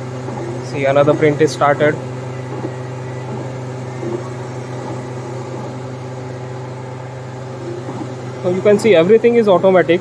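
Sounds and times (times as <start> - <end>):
printer machine hum: 0.0 - 10.0.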